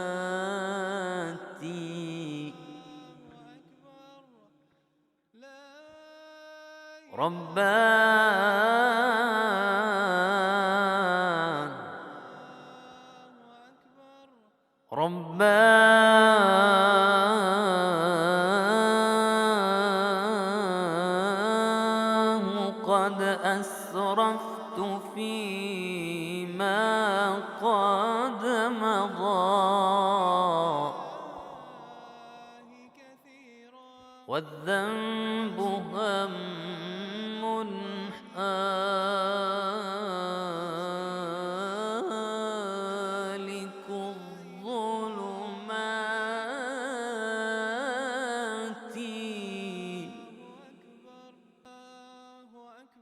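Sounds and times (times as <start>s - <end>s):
man chanting: 0.0s - 4.6s, 5.4s - 53.0s.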